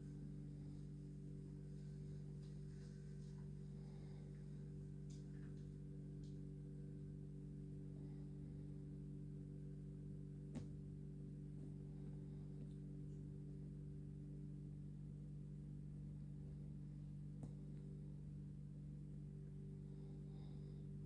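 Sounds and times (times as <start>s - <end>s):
low hum of held tones: 0.0s - 21.0s.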